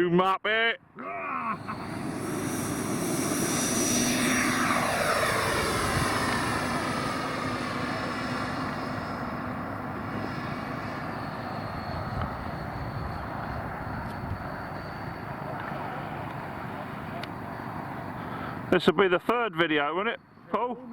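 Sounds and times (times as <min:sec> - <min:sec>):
model jet fans whining: 0:01.5 - 0:19.1.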